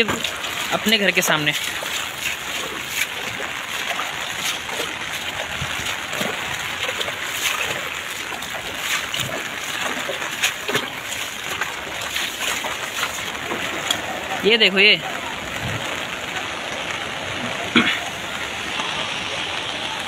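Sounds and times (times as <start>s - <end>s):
heavy rain splashing on floodwater: 0.0s - 20.0s.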